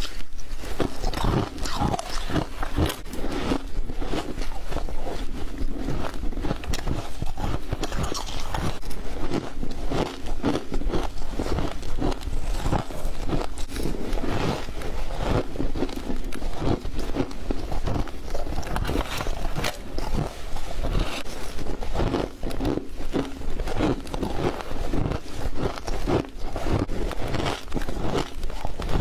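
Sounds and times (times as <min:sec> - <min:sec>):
person chewing frost crunches: 0:00.0 - 0:29.0.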